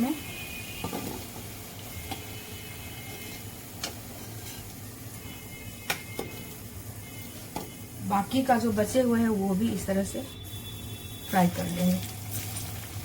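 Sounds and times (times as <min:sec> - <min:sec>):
frying oil hiss: 0:00.0 - 0:13.0.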